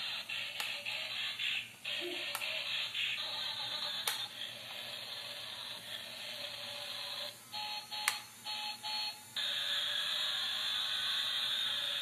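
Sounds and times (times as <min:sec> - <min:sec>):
toy car motor whirring: 0:00.0 - 0:07.8, 0:09.4 - 0:12.0.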